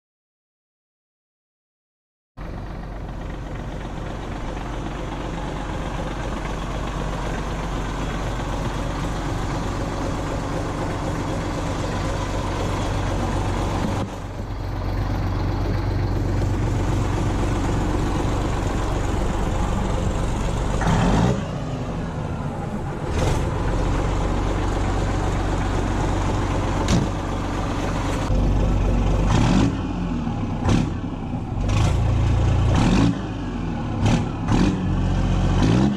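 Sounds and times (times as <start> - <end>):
diesel truck engine exhaust: 2.4 - 35.9.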